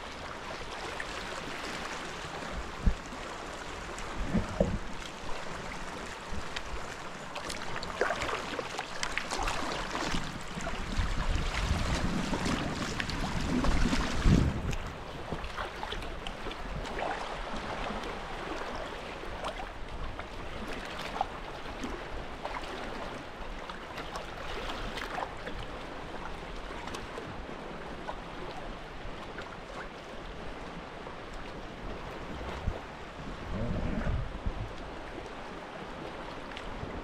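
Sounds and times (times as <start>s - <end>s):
sea water lapping and splashing: 0.0s - 37.0s.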